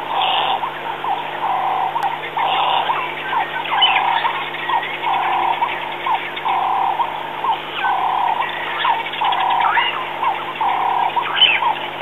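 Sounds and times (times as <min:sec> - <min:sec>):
low steady hum: 0:00.0 - 0:12.0
rising bird chirps: 0:00.0 - 0:12.0
wild animal calls: 0:00.0 - 0:12.0.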